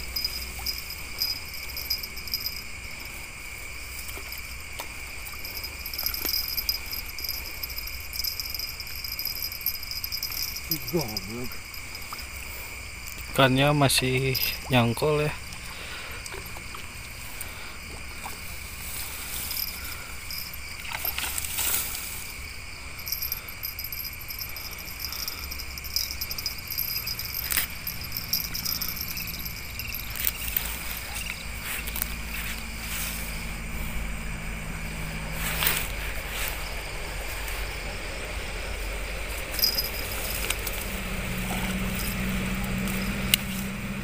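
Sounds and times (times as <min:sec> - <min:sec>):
low steady rumble: 0:00.0 - 0:13.2, 0:13.8 - 0:44.0
handling clicks and rustles: 0:00.0 - 0:13.4, 0:19.0 - 0:33.6, 0:35.3 - 0:37.8, 0:38.8 - 0:44.0
night insects chirring: 0:00.0 - 0:44.0.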